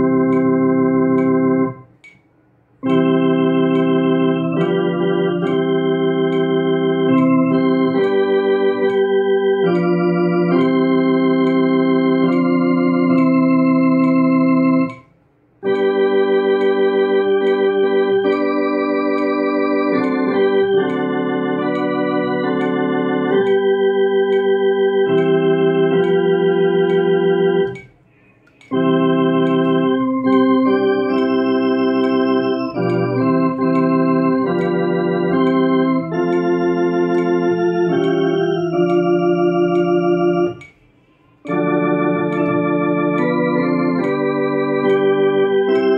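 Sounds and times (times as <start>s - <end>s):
electronic organ playing hymn: 0.0s - 2.2s, 2.8s - 28.0s, 28.6s - 40.8s, 41.4s - 45.9s.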